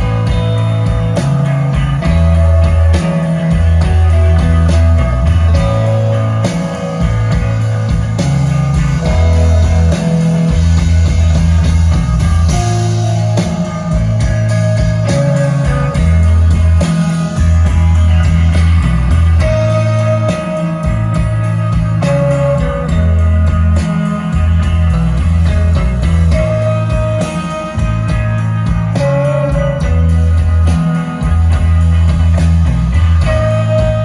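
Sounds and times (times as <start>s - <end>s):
bass line: 0.0s - 34.0s
live rock band playing: 0.0s - 34.0s.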